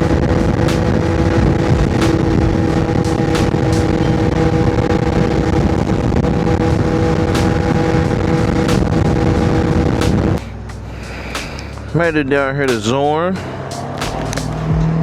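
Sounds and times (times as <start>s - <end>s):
wind rush: 0.0s - 12.5s
motorcycle engine cruising: 0.0s - 15.0s.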